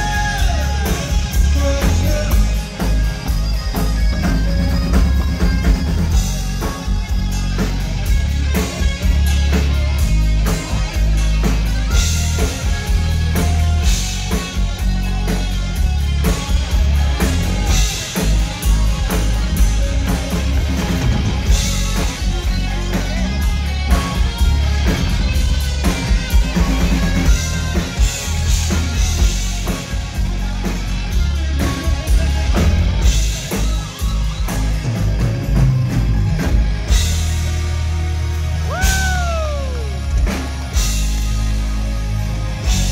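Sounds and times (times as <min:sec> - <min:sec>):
bass guitar: 0:00.0 - 0:42.9
drum kit: 0:00.0 - 0:42.9
electric guitar: 0:00.0 - 0:42.9
keyboard: 0:00.0 - 0:42.9.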